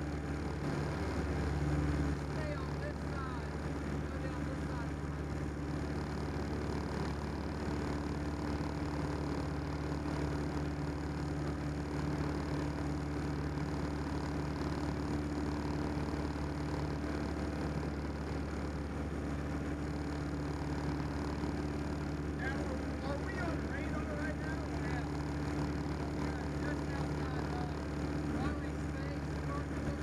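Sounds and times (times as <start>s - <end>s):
small plane engine droning: 0.0s - 30.0s.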